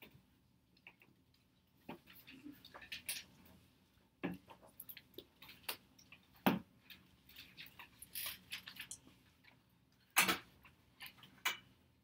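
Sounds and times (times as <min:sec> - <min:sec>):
small clicks and taps on desks: 0:00.0 - 0:03.4, 0:04.2 - 0:08.0, 0:08.6 - 0:11.8.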